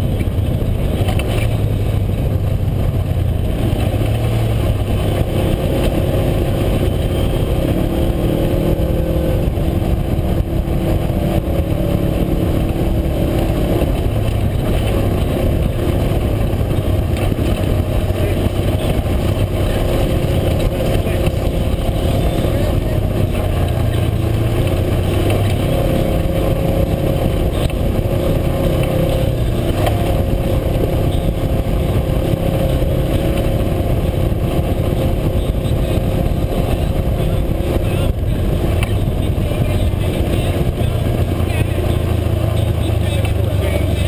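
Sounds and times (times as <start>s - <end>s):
road and wind rush: 0.0s - 44.0s
utility vehicle engine drone: 0.0s - 44.0s.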